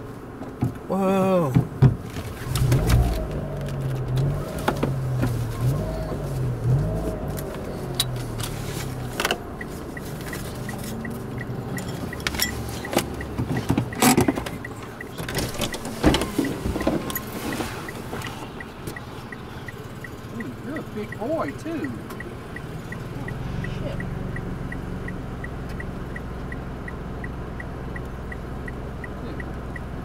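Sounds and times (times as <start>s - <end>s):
car interior driving noise: 0.0s - 30.0s
turn signal ticking: 0.0s - 30.0s.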